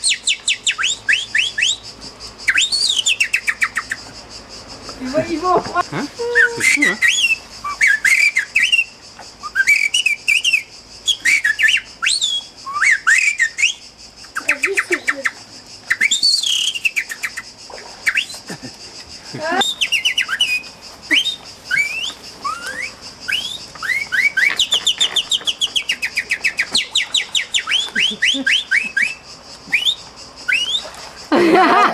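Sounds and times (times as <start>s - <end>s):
whistled bird calls: 0.0s - 4.1s, 6.2s - 18.5s, 19.5s - 31.2s.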